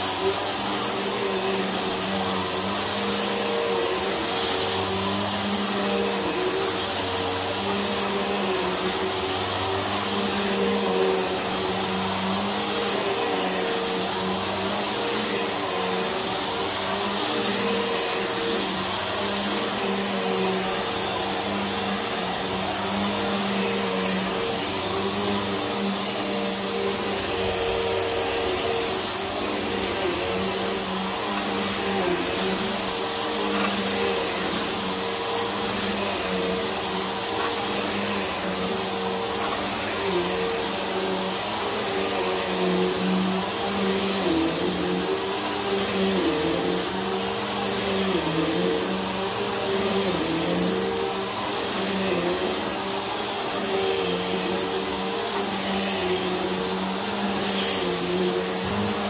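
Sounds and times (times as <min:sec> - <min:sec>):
vacuum cleaner running on carpet: 0:00.0 - 0:59.0.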